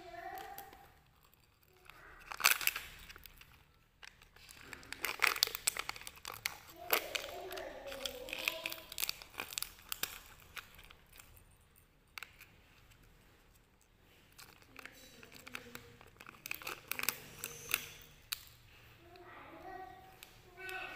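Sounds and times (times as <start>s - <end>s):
plastic wrapper crinkling: 0.0s - 20.9s.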